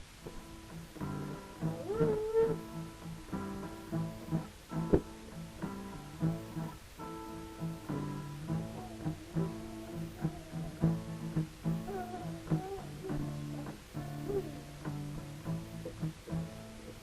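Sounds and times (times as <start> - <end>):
guitar plucking notes and chords: 0.0 - 17.0.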